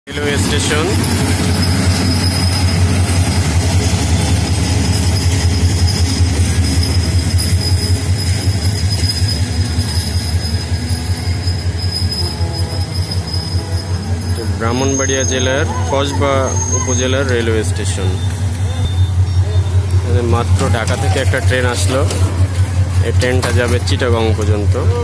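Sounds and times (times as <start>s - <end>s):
high-pitched wheel squeal: 0.1s - 22.4s
train wheels rumbling on track: 0.1s - 25.0s.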